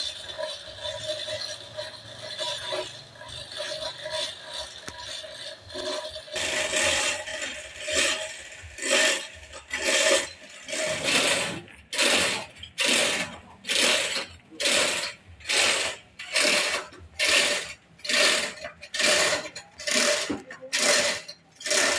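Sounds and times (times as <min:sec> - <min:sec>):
hoist chain rattling: 0:00.0 - 0:21.9
slow scraping strokes: 0:00.0 - 0:21.9.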